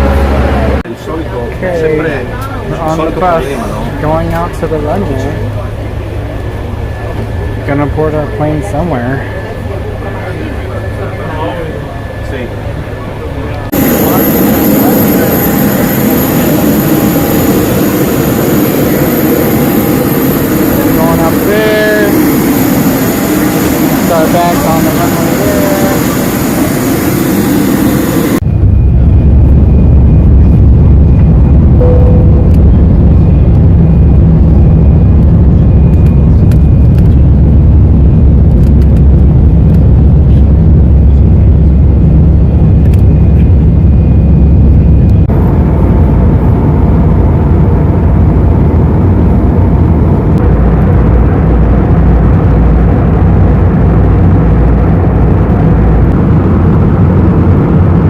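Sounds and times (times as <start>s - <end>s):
low rumble of vehicle ride: 0.0s - 26.8s, 28.3s - 58.0s.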